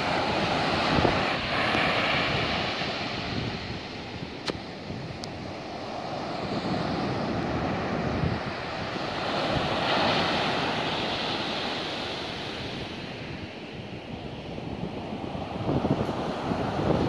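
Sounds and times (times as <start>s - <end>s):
surf breaking on beach: 0.0s - 13.7s.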